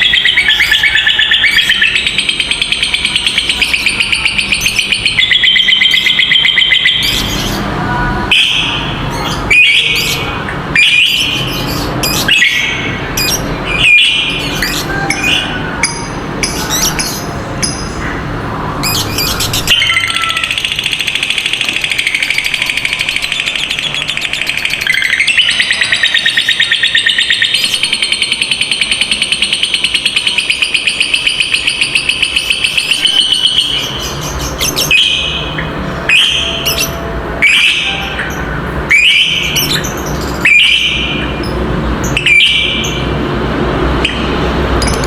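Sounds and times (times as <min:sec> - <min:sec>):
bird shrill calls: 0:00.0 - 0:07.7, 0:08.3 - 0:43.0
bird chattering trill: 0:00.0 - 0:43.2.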